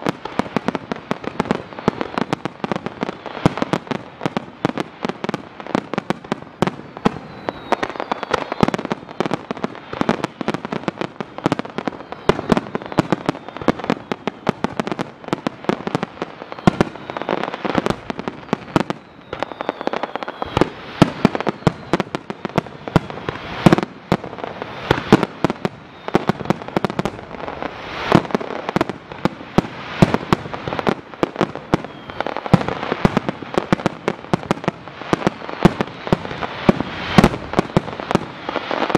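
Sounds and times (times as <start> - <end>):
falling firework whistles: 0.0 - 38.9
fireworks bursting: 0.0 - 38.9.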